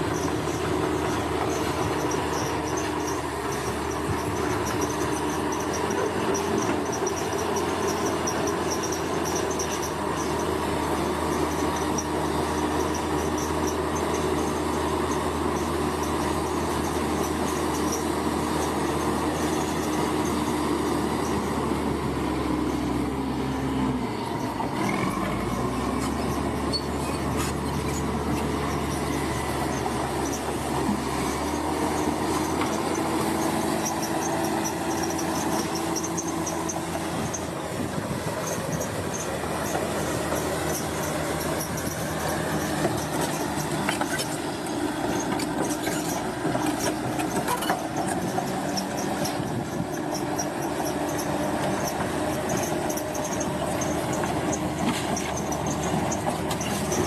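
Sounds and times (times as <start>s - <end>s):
bulldozer diesel engine running: 0.0s - 57.0s
metallic rumble of tracks: 0.0s - 57.0s.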